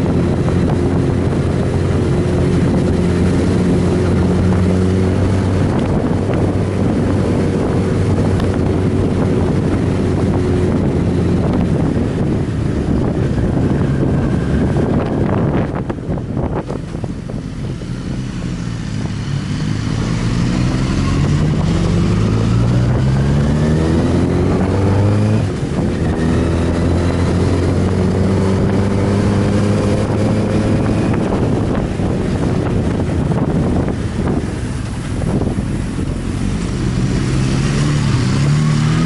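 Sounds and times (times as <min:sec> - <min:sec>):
motorcycle engine accelerating: 0:00.0 - 0:39.0
wind buffeting microphone: 0:00.0 - 0:39.0.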